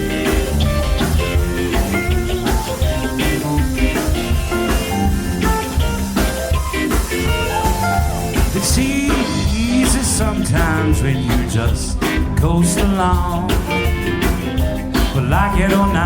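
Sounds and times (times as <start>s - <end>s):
guitar line: 0.0s - 16.0s
rock band playing: 0.0s - 16.0s.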